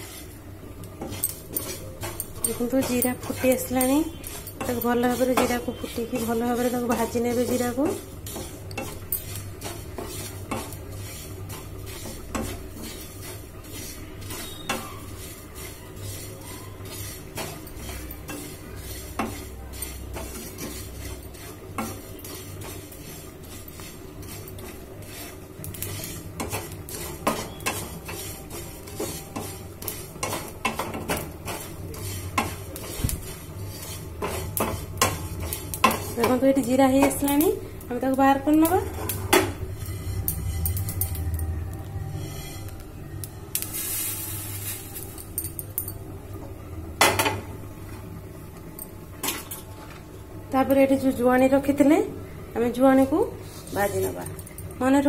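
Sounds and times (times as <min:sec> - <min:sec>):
spatula scraping seeds in pan: 0:00.0 - 0:41.4, 0:42.1 - 0:45.2, 0:52.7 - 0:54.4
steady low hum: 0:00.0 - 0:55.0.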